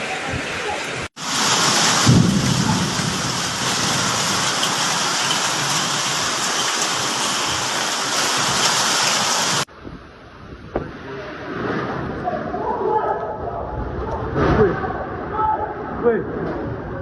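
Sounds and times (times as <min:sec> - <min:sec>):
torrential rain: 0:00.0 - 0:15.2.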